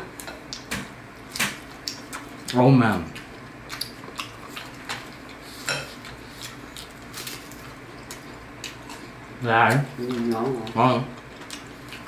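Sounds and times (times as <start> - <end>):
chewing: 1.4 - 9.2, 9.9 - 12.0.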